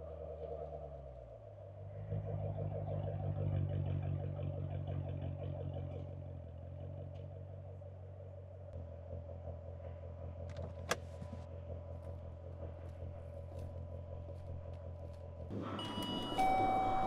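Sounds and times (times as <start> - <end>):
low engine-like hum with throb: 0.0 - 17.0.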